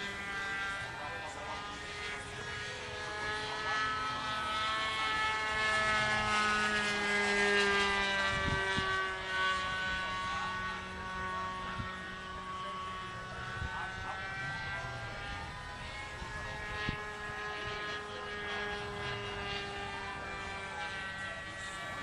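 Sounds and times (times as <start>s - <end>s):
model airplane engine droning: 0.0s - 22.0s.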